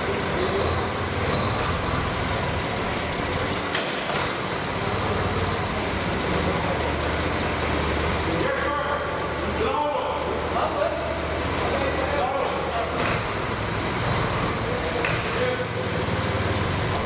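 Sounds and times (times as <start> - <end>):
tractor engine running at low revs: 0.0 - 17.0.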